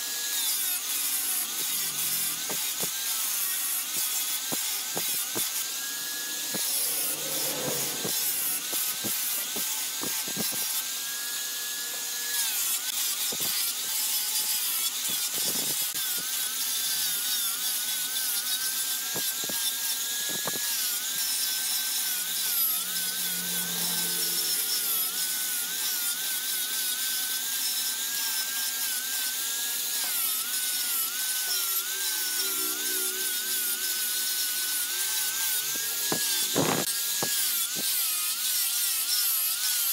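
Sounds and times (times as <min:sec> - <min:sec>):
angle grinder motor whine: 0:00.0 - 0:39.9
sanding disc hissing on wood: 0:00.0 - 0:39.9.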